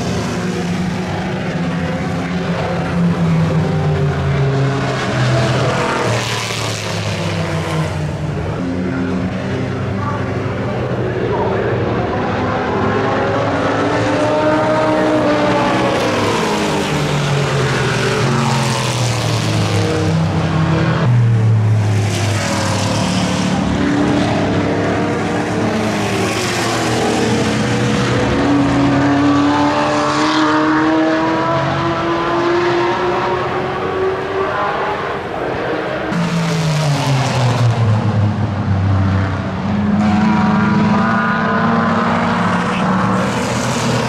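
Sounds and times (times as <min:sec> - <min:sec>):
racing car engines passing: 0:00.0 - 0:44.0.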